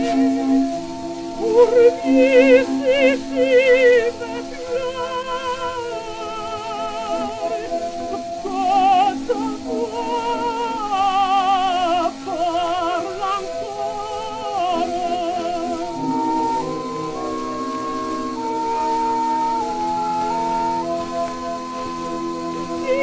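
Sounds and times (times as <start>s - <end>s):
instrumental accompaniment: 0.0s - 23.0s
woman singing opera: 0.0s - 23.0s.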